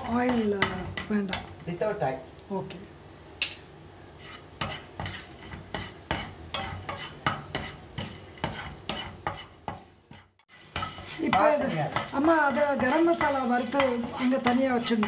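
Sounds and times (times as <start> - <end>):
spatula scraping frying pan: 0.0 - 1.7, 4.1 - 15.0.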